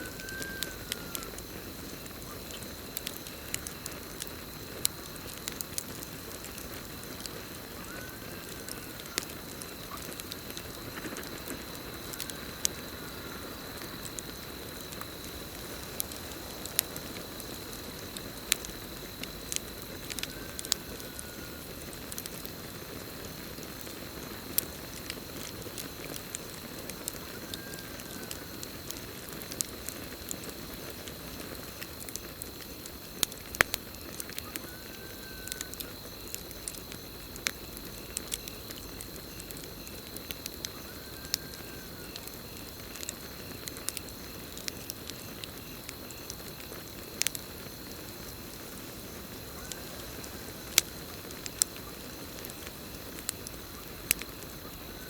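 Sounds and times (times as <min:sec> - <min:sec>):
campfire crackling and popping: 0:00.0 - 0:55.0
cricket trilling: 0:00.0 - 0:55.0.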